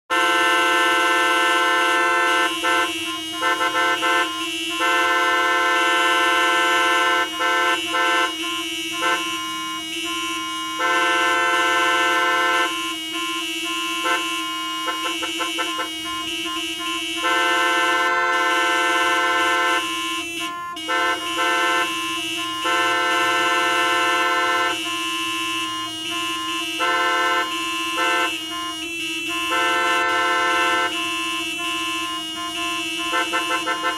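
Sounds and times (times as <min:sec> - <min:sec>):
car horns honking: 0:00.1 - 0:33.9
faint traffic rumble: 0:00.2 - 0:33.9.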